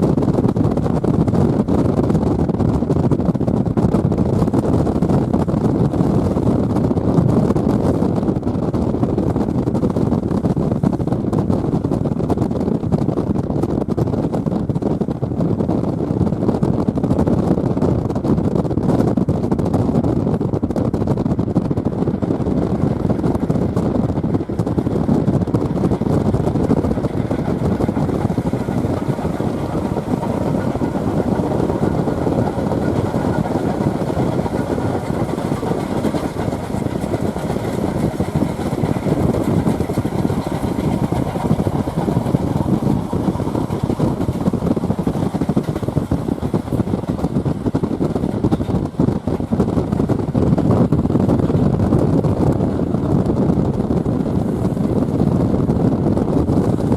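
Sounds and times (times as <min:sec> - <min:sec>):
wind blowing over microphone: 0:00.0 - 0:56.9.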